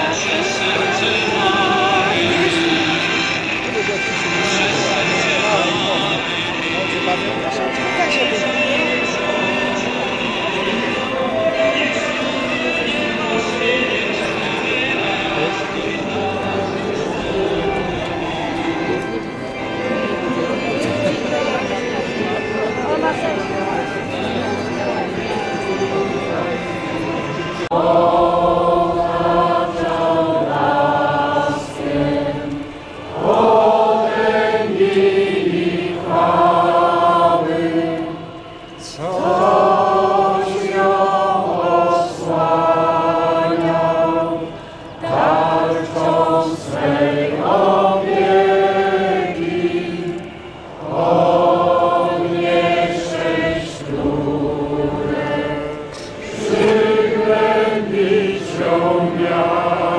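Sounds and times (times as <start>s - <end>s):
crowd singing in unison: 0.0s - 59.9s.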